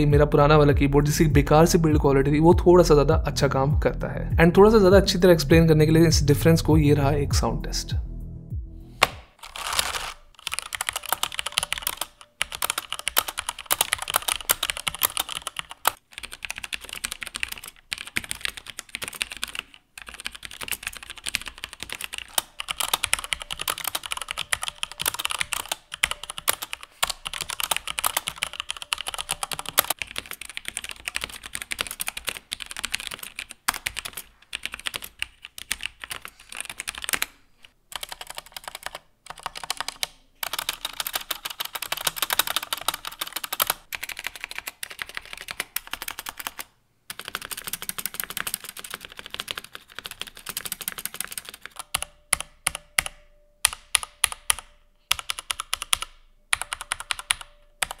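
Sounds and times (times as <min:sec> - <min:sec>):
mechanical keyboard typing: 0:09.4 - 0:37.3, 0:37.9 - 0:58.0.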